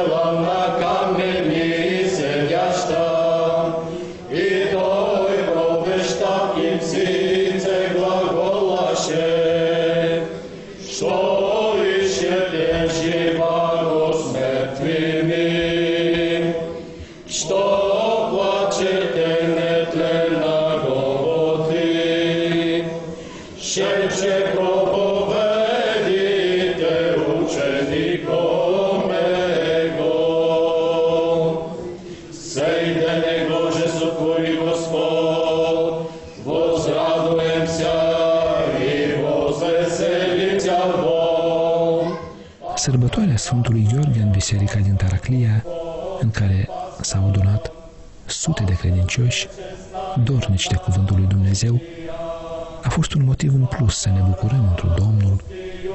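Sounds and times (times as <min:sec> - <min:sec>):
church choir chanting in harmony: 0:00.0 - 0:55.9.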